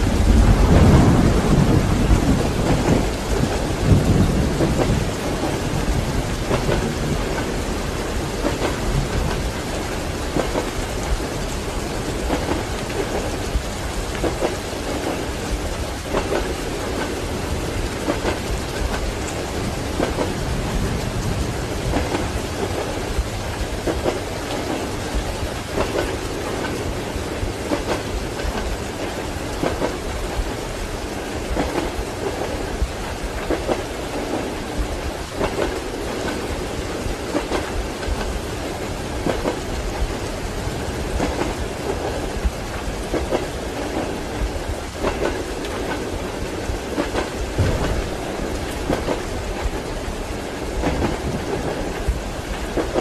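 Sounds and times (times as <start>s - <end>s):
steady rain: 0.0s - 53.0s
train wheels clacking on rail joints: 0.7s - 53.0s.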